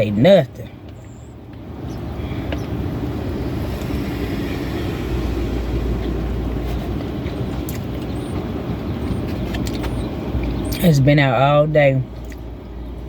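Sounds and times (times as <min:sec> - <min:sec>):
motor vehicle rumble with hiss: 0:00.0 - 0:13.0.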